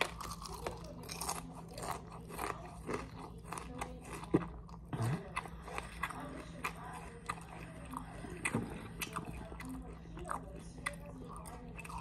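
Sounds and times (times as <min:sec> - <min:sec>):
chewing crunchy cereal: 0:00.0 - 0:12.0.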